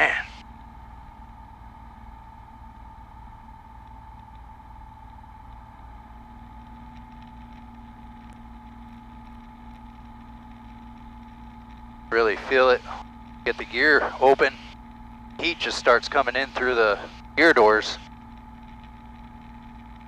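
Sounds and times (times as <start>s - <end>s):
low steady hum: 0.0s - 20.0s
propeller plane engine drone: 0.0s - 20.0s.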